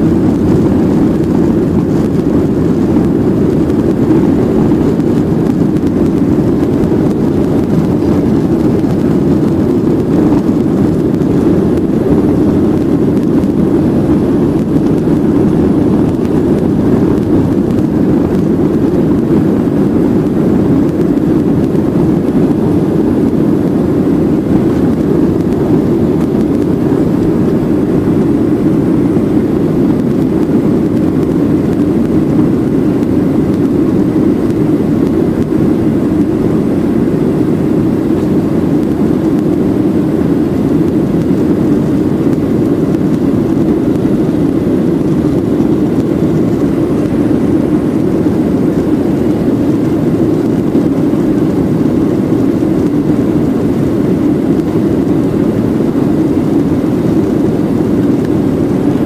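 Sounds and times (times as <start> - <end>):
jet airliner cabin engine noise: 0.0 - 59.0.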